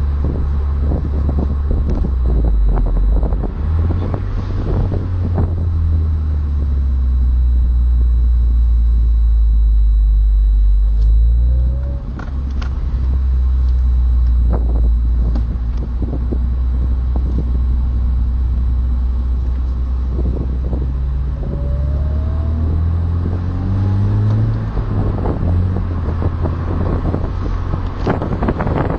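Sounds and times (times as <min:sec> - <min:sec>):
car engine accelerating: 0:00.0 - 0:28.9
road noise: 0:00.0 - 0:28.9.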